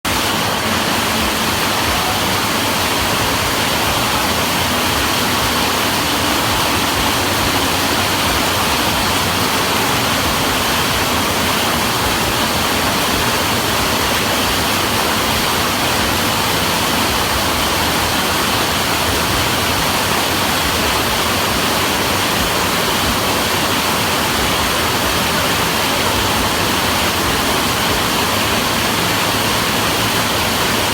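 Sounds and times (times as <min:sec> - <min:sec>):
heavy rain on a metal roof: 0:00.0 - 0:30.9.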